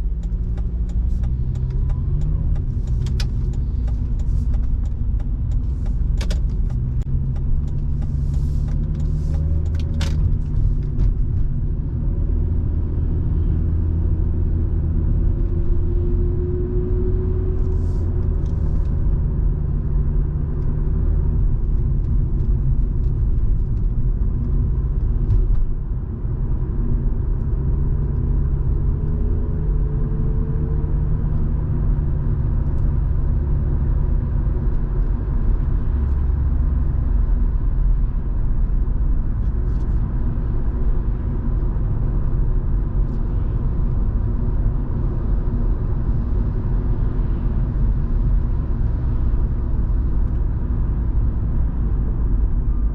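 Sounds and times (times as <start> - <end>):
car engine while driving: 0.0 - 52.9.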